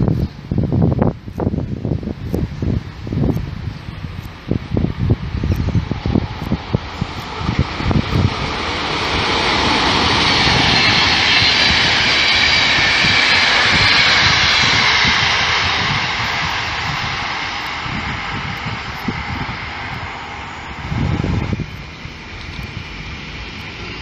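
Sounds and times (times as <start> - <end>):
train wheels rushing on rail: 0.0 - 24.0.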